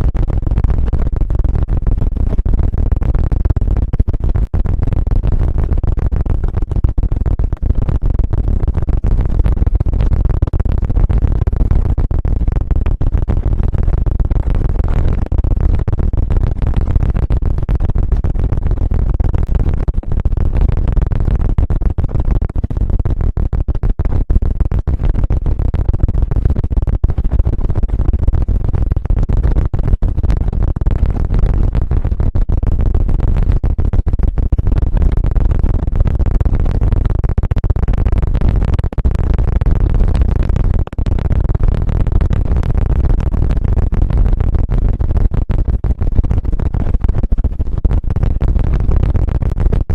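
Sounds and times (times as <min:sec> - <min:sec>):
low rumble with rapid crackles: 0:00.0 - 0:49.9.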